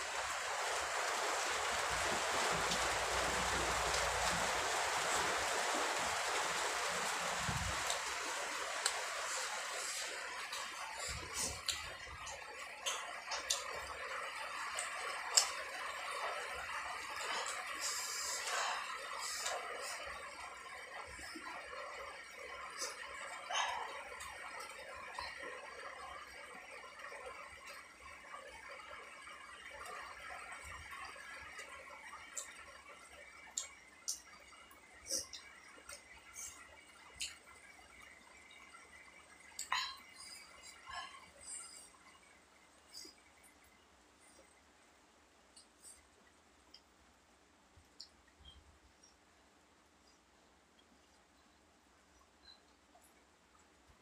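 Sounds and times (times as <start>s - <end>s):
rain hiss: 0.0s - 47.3s.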